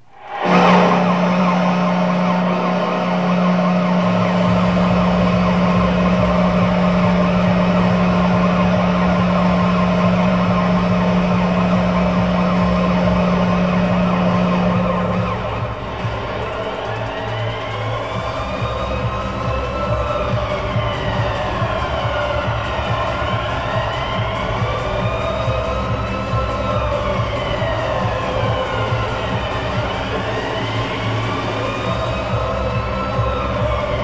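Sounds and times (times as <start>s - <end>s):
goal horn low note: 0.0s - 34.0s
noisy crowd: 0.0s - 34.0s
thumping music beat: 0.0s - 34.0s.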